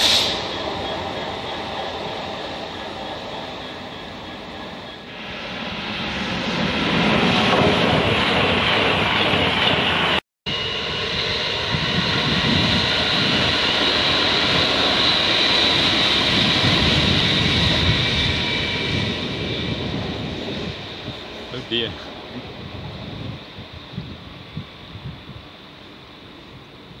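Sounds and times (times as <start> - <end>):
diesel train passing at speed: 0.0 - 27.0
electric train whine: 0.0 - 27.0.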